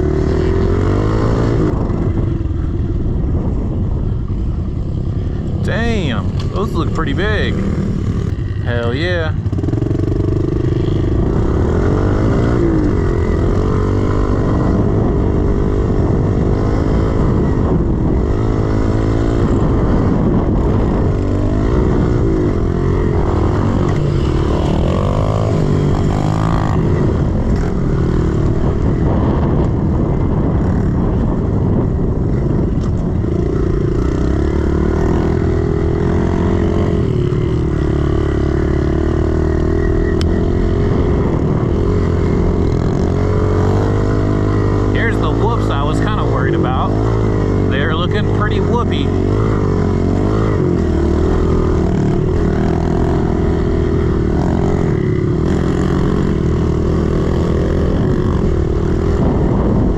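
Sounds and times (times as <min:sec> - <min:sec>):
dirt bike engine revving: 0:00.0 - 0:02.3, 0:04.8 - 0:59.9.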